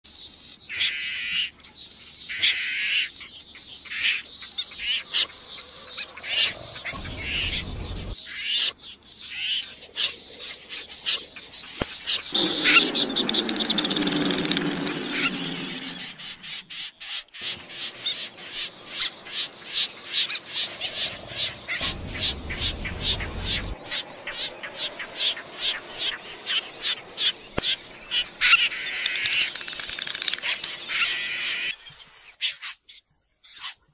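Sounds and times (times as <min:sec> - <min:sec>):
snipe calls: 0:03.9 - 0:08.7, 0:09.3 - 0:32.6.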